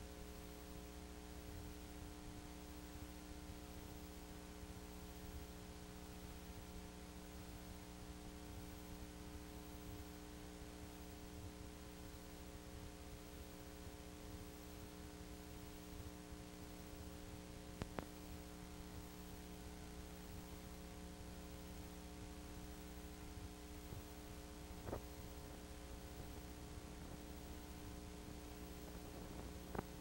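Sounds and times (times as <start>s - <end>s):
electrical hum with tones: 0.0s - 30.0s.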